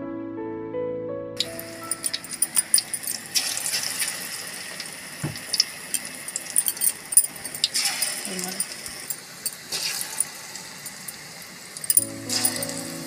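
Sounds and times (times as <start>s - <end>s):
food deep-frying in oil: 1.4s - 13.0s.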